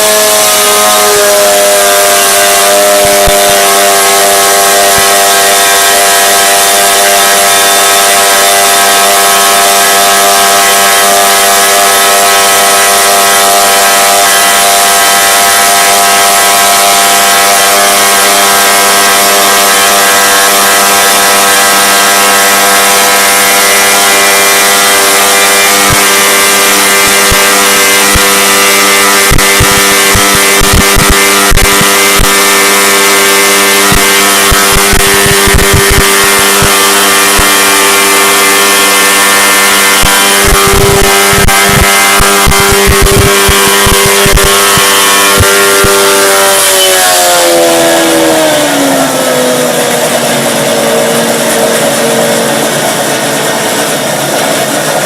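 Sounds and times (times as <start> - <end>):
engine at high revs: 0.0 - 55.0.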